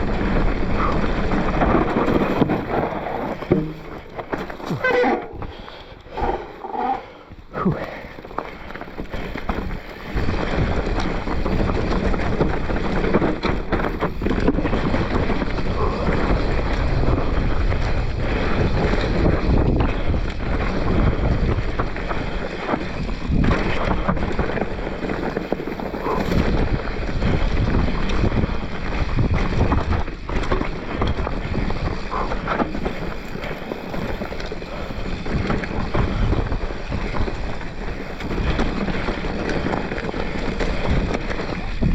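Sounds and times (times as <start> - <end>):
bike knocks and rattles: 0.0 - 5.8, 7.6 - 41.9
bike tyres rumbling: 0.0 - 41.9
wind rushing over microphone: 0.0 - 41.9.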